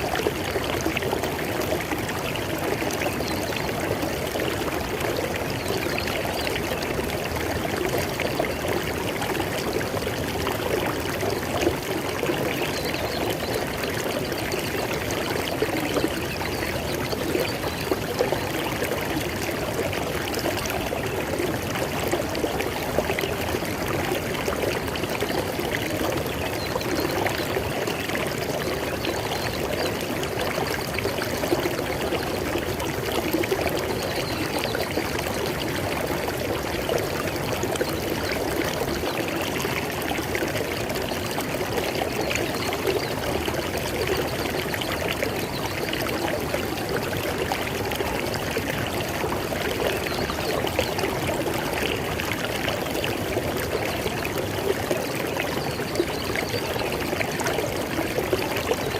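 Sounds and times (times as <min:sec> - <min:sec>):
river water over rocks: 0:00.0 - 0:58.9.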